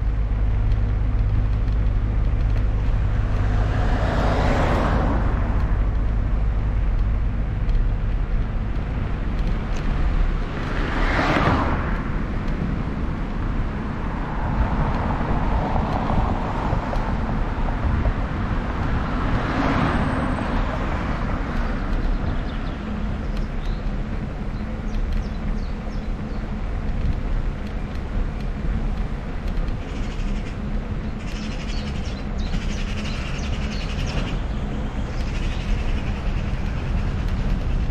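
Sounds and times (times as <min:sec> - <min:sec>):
road traffic passing: 0:00.0 - 0:37.9
wind rumbling on microphone: 0:00.0 - 0:37.9.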